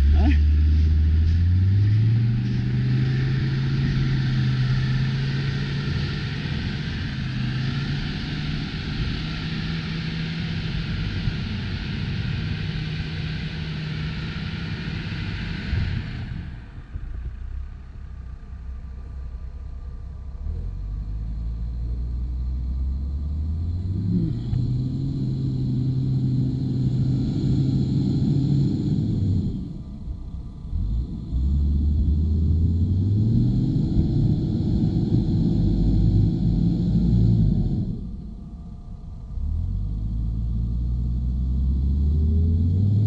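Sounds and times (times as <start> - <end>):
off-road vehicle engine revving: 0.0 - 16.6, 20.4 - 29.9, 30.6 - 38.2, 39.4 - 43.0.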